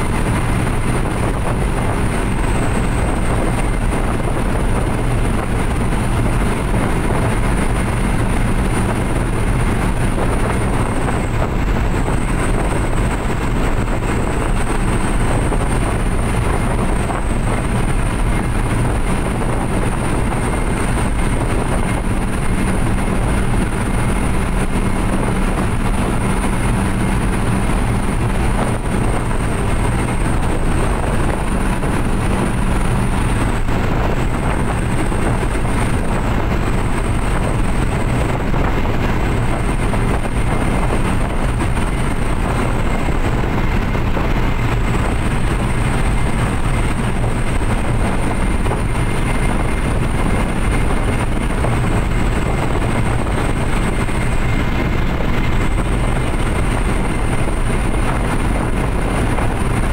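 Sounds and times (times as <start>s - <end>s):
engine drone inside cab: 0.0s - 59.9s
road and wind noise: 0.0s - 59.9s.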